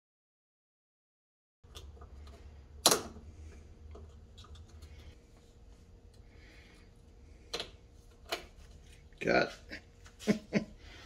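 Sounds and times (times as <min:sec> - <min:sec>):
steady low hum: 0:01.7 - 0:11.0.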